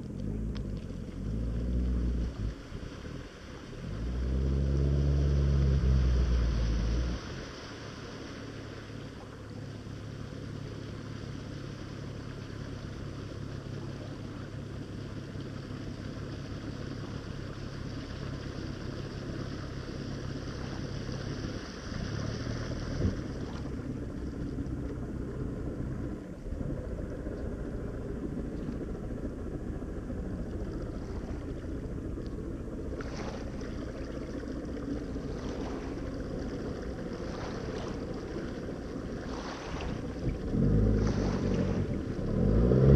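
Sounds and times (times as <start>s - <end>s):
boat engine droning: 0.0s - 42.9s
water washing: 0.0s - 42.9s
wind: 0.0s - 42.9s.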